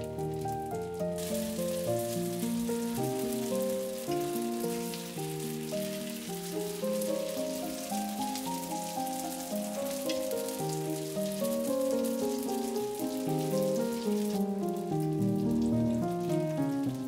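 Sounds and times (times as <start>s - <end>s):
background music with held notes: 0.0s - 17.0s
food sizzling in hot oil: 0.0s - 17.0s.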